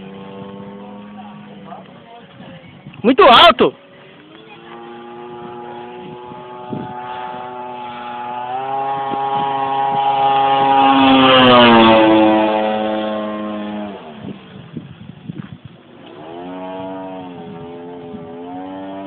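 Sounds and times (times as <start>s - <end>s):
model airplane engine flyby: 0.0s - 2.5s, 3.6s - 19.0s.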